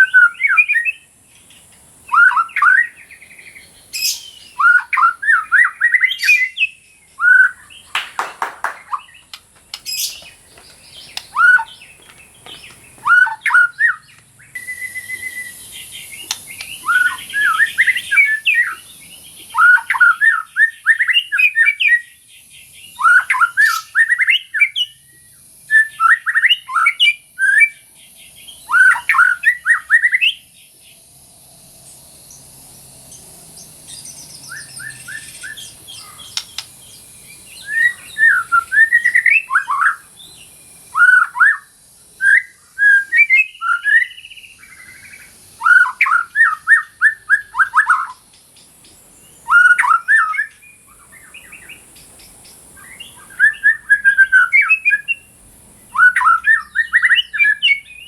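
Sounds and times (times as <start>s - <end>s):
shama bird singing: 0.0s - 31.1s, 31.9s - 58.0s.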